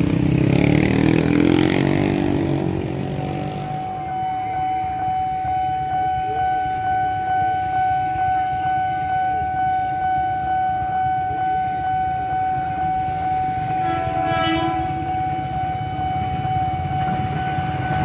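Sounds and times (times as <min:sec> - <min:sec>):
level crossing alarm pulsing: 0:00.0 - 0:18.0
road traffic rumble: 0:00.0 - 0:18.0.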